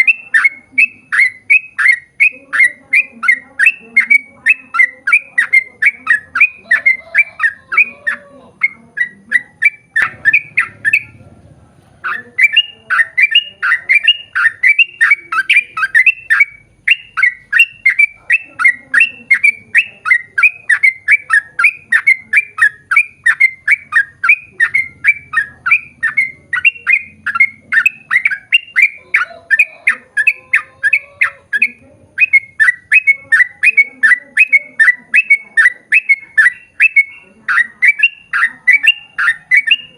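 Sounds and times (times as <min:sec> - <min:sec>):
bird singing chattering notes: 0:00.0 - 0:11.4, 0:12.0 - 0:39.9.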